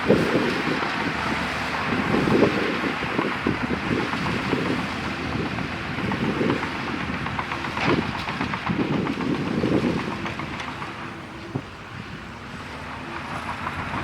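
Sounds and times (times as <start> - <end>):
bulldozer diesel engine under load: 0.0 - 14.0
steel tracks clanking: 0.0 - 14.0.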